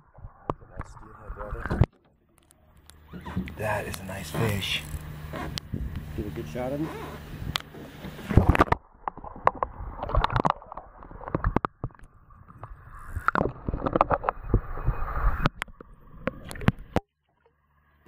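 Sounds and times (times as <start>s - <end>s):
water sloshing and gurgling: 0.0s - 17.6s.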